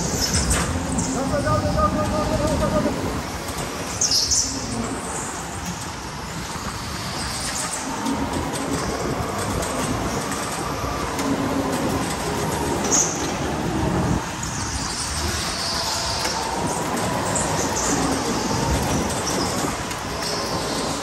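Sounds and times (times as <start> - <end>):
go-kart rumble: 0.0 - 21.0.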